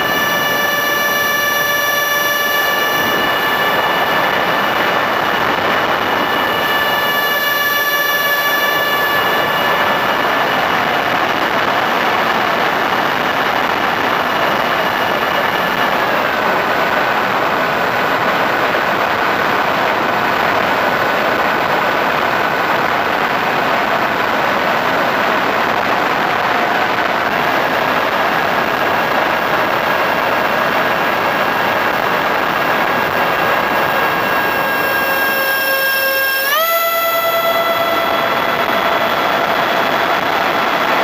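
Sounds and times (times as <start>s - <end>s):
model aircraft motor whine: 0.0s - 22.8s, 28.4s - 41.0s.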